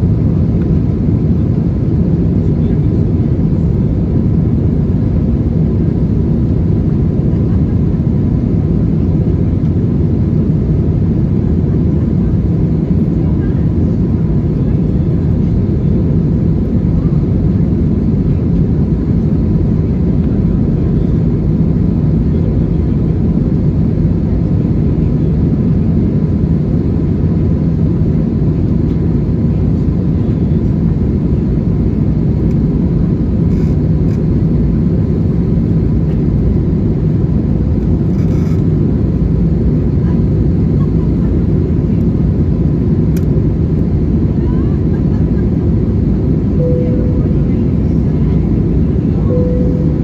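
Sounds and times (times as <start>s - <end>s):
airplane cabin engine roar: 0.0s - 50.0s.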